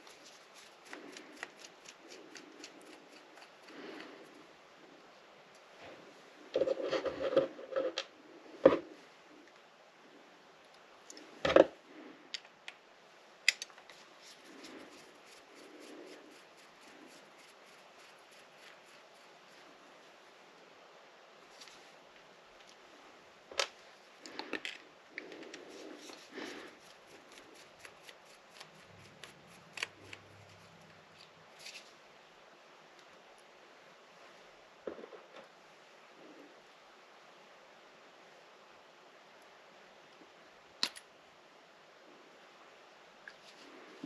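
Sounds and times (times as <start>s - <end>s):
soft rustling of parts: 0.0s - 9.7s, 10.6s - 20.7s, 21.3s - 36.4s, 43.2s - 44.0s.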